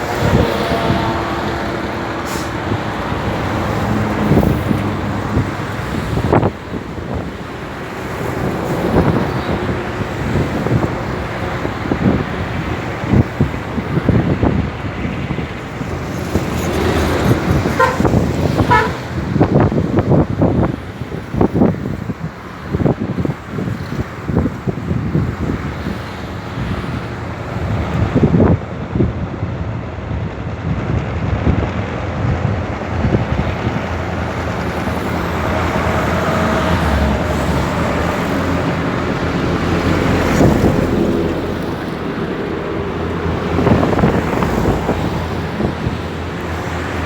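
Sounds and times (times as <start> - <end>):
boat engine running: 0.0 - 20.0, 29.2 - 47.0
wind buffeting microphone: 0.0 - 47.0.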